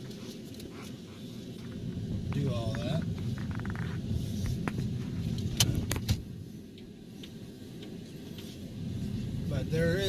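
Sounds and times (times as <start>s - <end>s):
car road noise rumble: 0.0s - 10.0s.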